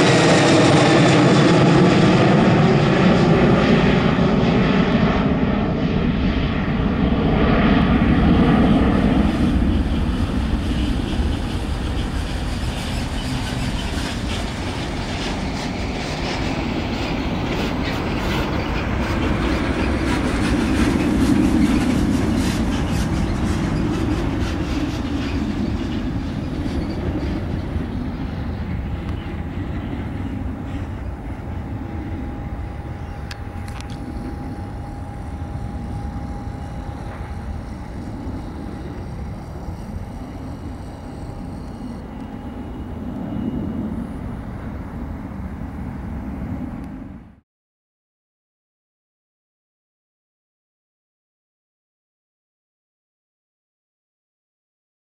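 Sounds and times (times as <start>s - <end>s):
jet engines at climb power: 0.0s - 47.4s.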